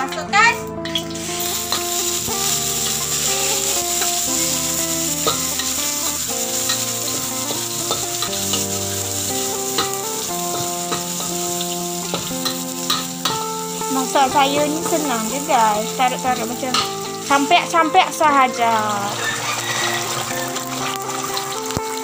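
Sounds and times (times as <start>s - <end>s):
metal spatula scraping a pan: 0.8s - 15.5s, 16.4s - 17.4s, 19.0s - 21.6s
garlic sizzling in hot oil: 0.8s - 22.0s.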